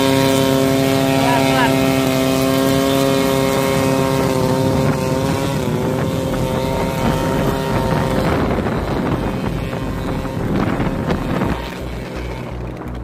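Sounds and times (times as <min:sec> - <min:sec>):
light aircraft engine and propeller: 0:00.0 - 0:13.0
wind noise on microphone: 0:00.0 - 0:13.0.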